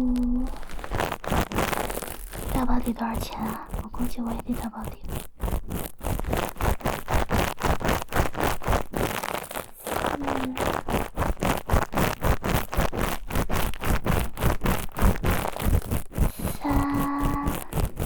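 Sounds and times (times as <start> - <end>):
scratching on a microphone: 0.0 - 18.0.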